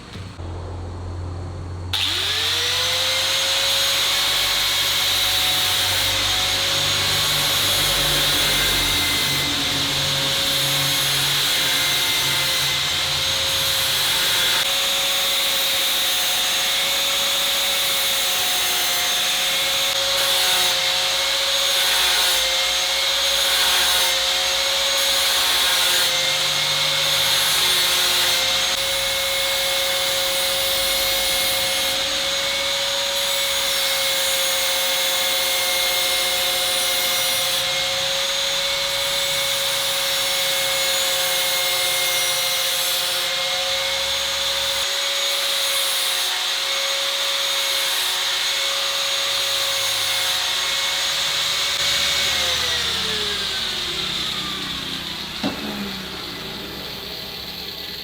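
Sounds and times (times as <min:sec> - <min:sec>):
electric grinder running: 0:01.9 - 0:58.0.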